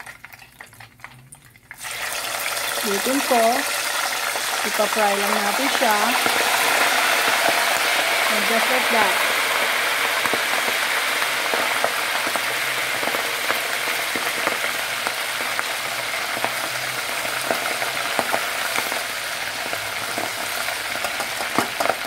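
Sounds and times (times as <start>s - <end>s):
oil sizzling with pops: 0.0s - 22.0s.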